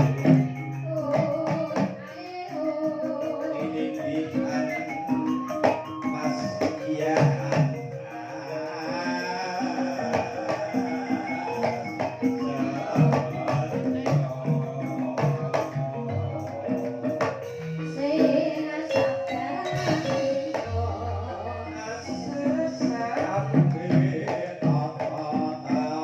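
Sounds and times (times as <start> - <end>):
gamelan metal keys ringing: 0.0 - 23.6
drumming: 0.0 - 26.0.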